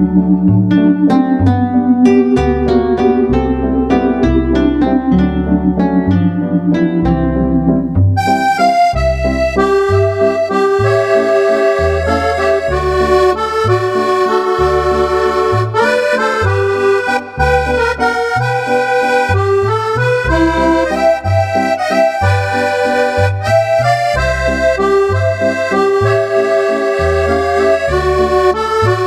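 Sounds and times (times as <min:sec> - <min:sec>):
accordion melody: 0:00.0 - 0:29.0
bass notes and chord stabs: 0:00.0 - 0:29.0.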